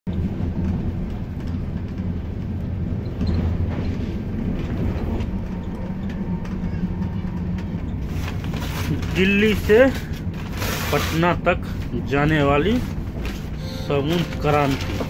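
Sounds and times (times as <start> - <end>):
train low rumble: 0.1 - 15.0.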